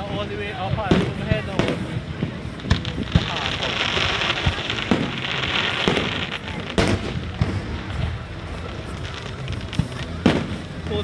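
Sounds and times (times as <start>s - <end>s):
firework crackle: 0.0s - 11.0s
firework shell bursts: 0.0s - 11.0s.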